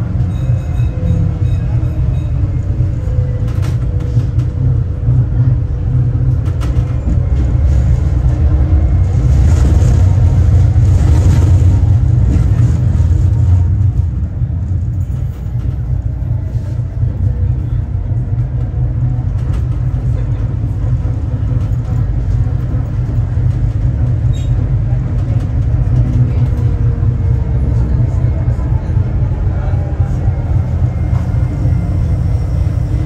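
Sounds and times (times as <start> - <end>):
tram rumbling on tracks: 0.0 - 33.0.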